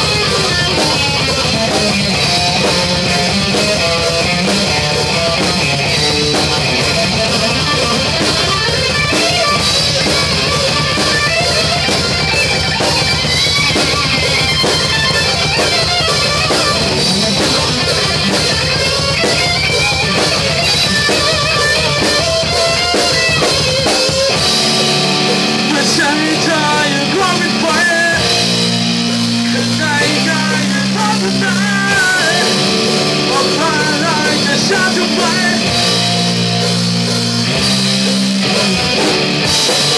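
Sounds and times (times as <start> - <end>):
distorted electric guitar: 0.0 - 39.9
drum kit: 0.0 - 39.9.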